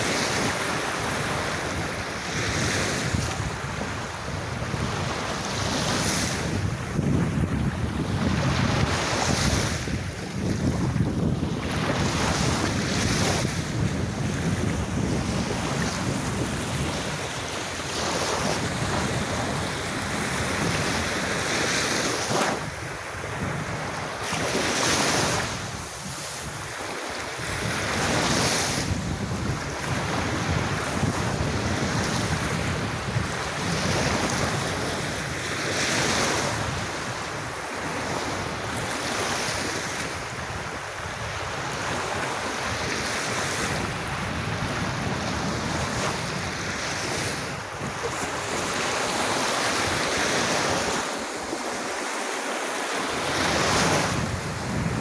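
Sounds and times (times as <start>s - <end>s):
wind rumble on microphone: 0.0s - 51.8s, 53.0s - 55.0s
sea waves washing onto beach: 0.0s - 55.0s.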